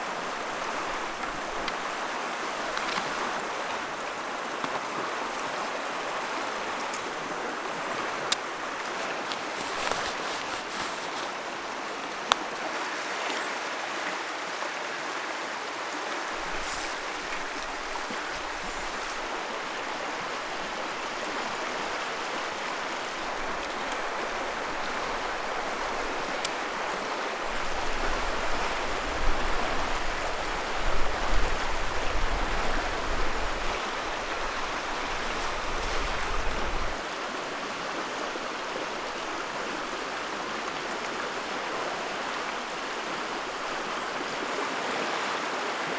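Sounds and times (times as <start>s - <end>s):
river rushing over riffles: 0.0s - 45.9s.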